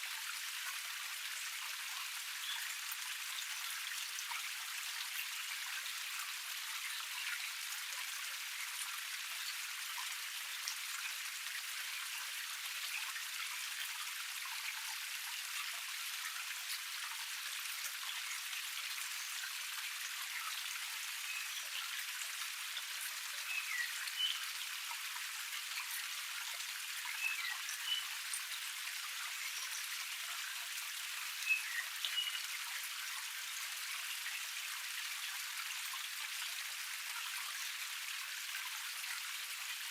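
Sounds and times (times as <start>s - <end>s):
cascade splashing and trickling: 0.0s - 39.9s.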